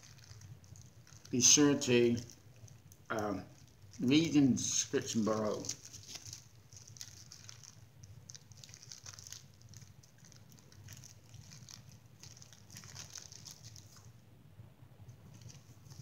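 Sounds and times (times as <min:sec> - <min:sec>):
faint chewing crackles: 0:00.0 - 0:14.2
steady low hum: 0:00.0 - 0:16.0.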